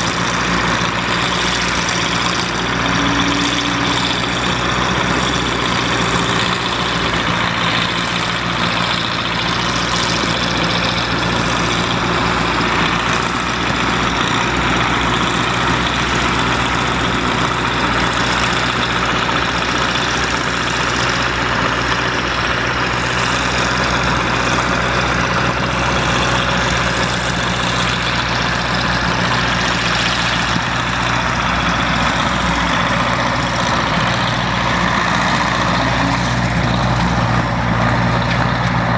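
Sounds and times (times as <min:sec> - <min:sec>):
harvesting machine engine running: 0:00.0 - 0:38.9.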